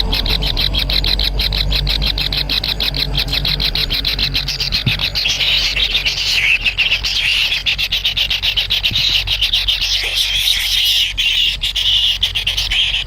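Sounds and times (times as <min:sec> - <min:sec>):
bird chicks buzzy chatter: 0:00.0 - 0:13.0
steady low hum: 0:00.0 - 0:13.0.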